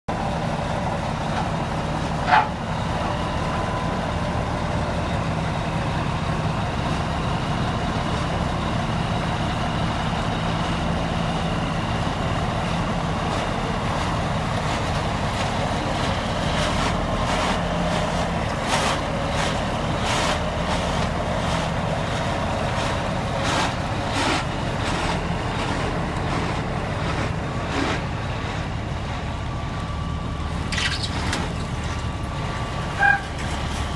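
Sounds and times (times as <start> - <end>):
diesel locomotive engine drone: 0.1 - 33.9.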